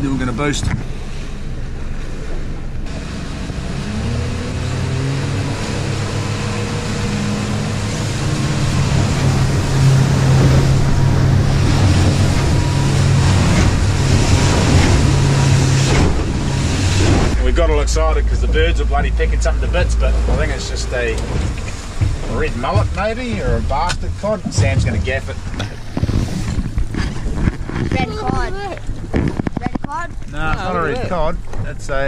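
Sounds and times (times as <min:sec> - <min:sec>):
wind blowing: 0:00.0 - 0:31.9
boat engine speeding up: 0:00.0 - 0:32.0
water rushing: 0:00.0 - 0:32.0.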